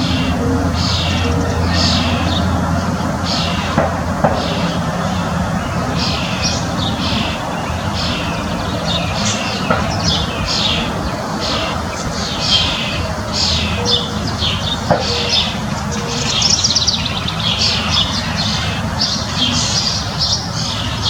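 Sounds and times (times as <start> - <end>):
birds chirping downward: 0.0 - 21.0
steady low hum: 0.0 - 21.0.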